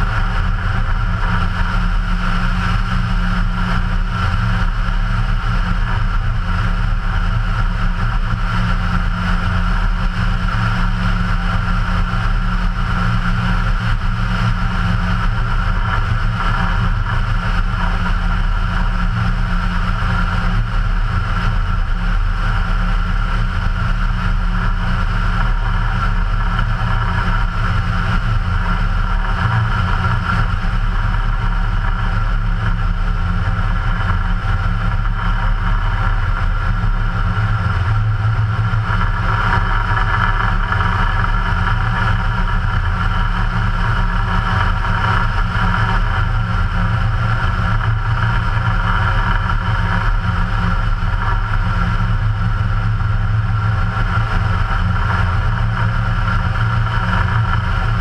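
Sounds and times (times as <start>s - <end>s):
aircraft engine and propeller: 0.0s - 58.0s
airflow on microphone: 0.0s - 58.0s.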